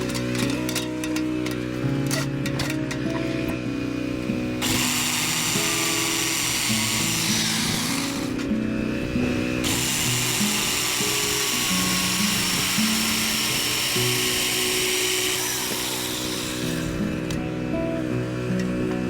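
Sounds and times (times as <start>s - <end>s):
background music: 0.0s - 19.0s
power tool whining: 0.0s - 19.0s.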